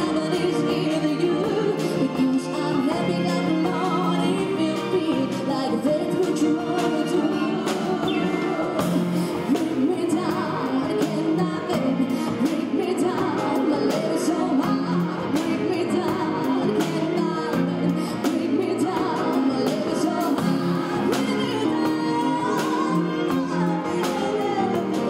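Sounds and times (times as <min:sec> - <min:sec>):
string ensemble: 0:00.0 - 0:25.0
woman singing into a microphone: 0:00.0 - 0:25.0.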